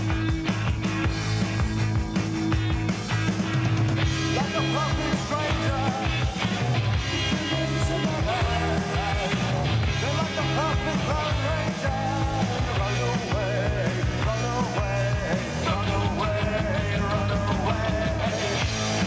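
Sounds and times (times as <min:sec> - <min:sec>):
bass: 0:00.0 - 0:19.0
drums: 0:00.0 - 0:19.0.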